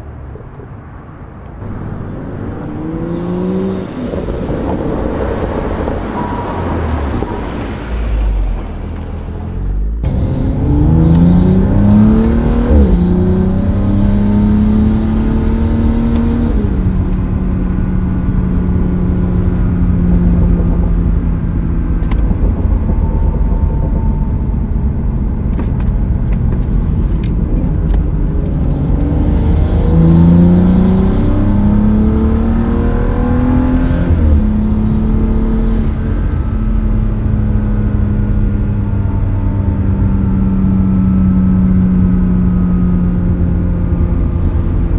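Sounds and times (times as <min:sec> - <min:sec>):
car engine accelerating and upshifting: 0:01.4 - 0:44.9.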